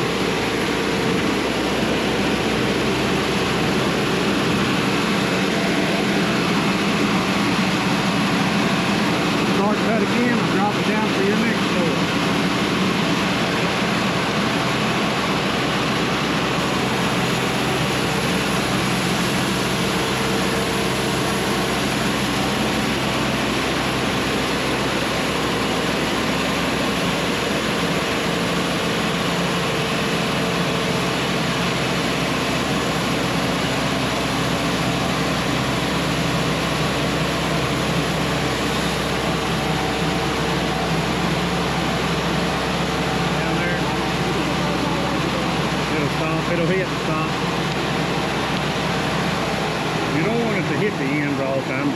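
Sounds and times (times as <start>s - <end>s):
sawmill engine and saw drone: 0.0s - 51.9s.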